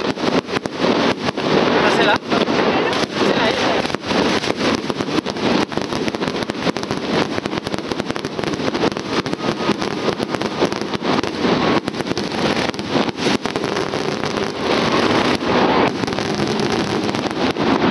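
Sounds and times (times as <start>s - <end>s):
fireworks crackling and banging: 0.0s - 17.9s.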